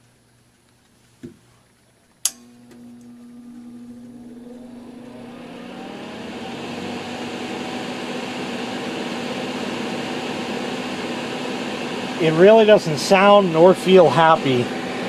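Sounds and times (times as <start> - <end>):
electric fan motor hum and whine: 2.2 - 15.0.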